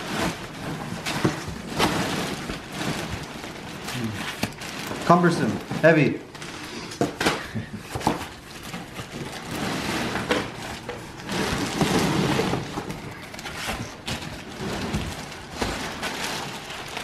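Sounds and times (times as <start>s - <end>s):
cardboard scraping and sliding: 0.0s - 6.9s, 7.9s - 17.0s
plastic wrap crinkling: 0.0s - 17.0s.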